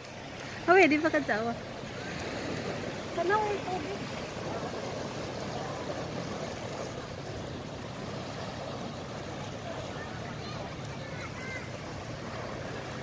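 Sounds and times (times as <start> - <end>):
surf washing up sand: 0.0 - 13.0
waves breaking on rocks: 0.0 - 13.0.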